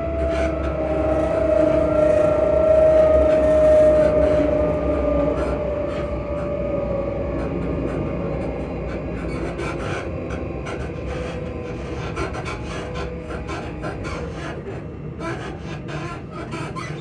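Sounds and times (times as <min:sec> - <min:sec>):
electric train motors humming: 0:00.0 - 0:17.0
wheel and rail rumble: 0:00.0 - 0:17.0.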